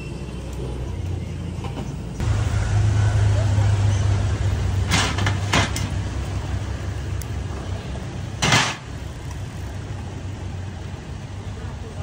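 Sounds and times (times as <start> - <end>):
steady low hum: 2.2 - 12.0.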